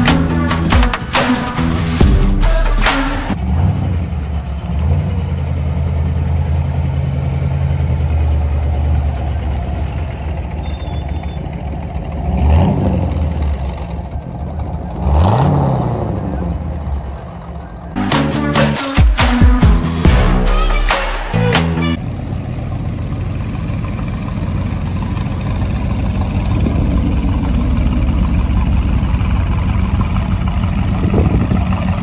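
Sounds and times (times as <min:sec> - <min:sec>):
engine revving: 0:00.0 - 0:09.1, 0:10.9 - 0:16.9, 0:18.0 - 0:32.0
car engine running: 0:00.0 - 0:32.0.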